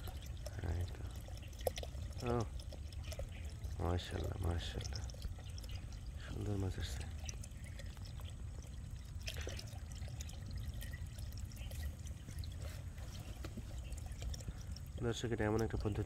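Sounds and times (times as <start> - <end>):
water pouring and trickling: 0.0 - 16.0.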